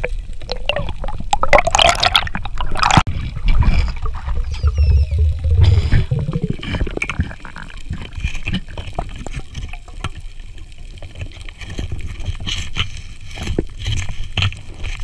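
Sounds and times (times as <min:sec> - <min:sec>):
underwater rumble and gurgle: 0:00.0 - 0:15.0.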